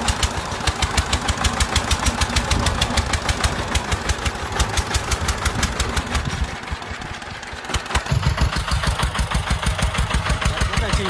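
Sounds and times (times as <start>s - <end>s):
walking tractor engine knocking: 0.0s - 11.0s.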